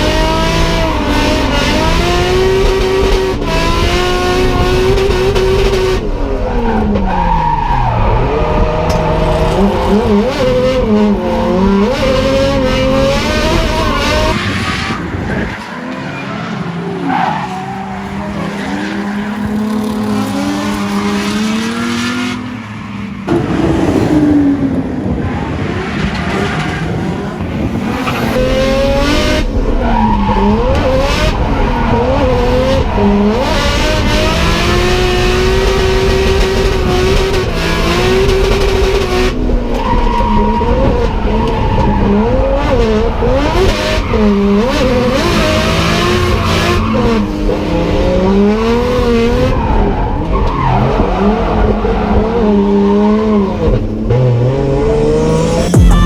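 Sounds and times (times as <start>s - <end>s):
car engine revving hard: 0.0s - 56.0s
tyres squealing and skidding: 6.1s - 37.0s, 39.6s - 56.0s.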